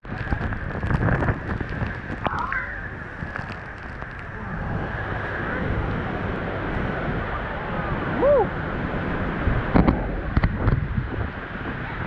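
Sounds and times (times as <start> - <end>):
waterfall roaring: 0.0 - 12.0
wind buffeting microphone: 0.0 - 12.0.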